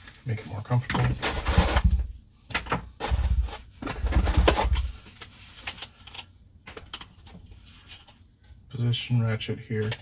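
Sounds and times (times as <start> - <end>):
rubbing and rustling: 0.0 - 2.1, 3.0 - 6.2, 7.1 - 9.9.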